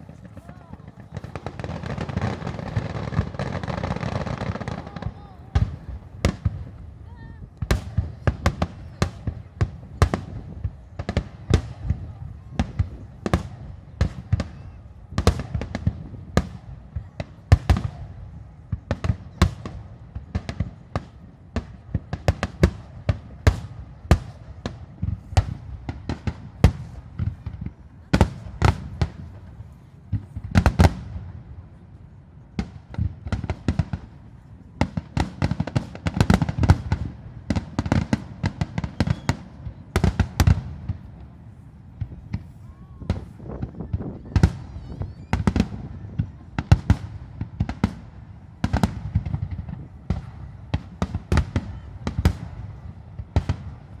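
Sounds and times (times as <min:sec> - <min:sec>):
deep fireworks booms: 0:00.0 - 0:54.0
fireworks bangs: 0:00.0 - 0:54.0.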